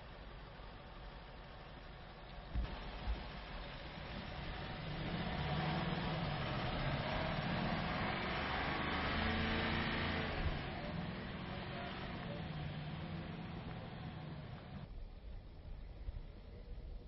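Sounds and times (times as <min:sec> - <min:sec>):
diesel engine pulling at low speed: 0:00.0 - 0:14.9.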